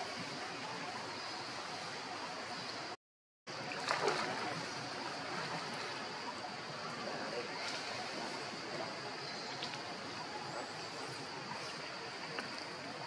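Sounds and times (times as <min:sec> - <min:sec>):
running stream water: 0:00.0 - 0:13.0.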